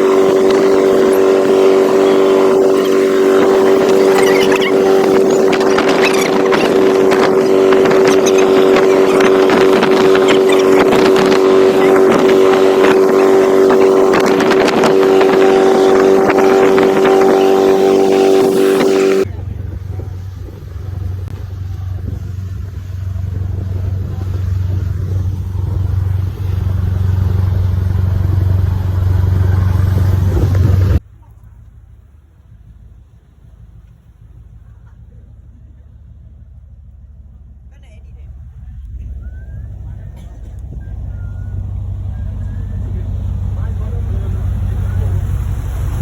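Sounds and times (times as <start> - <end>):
boat engine running: 0.0 - 46.0
deep engine rumble: 0.0 - 46.0.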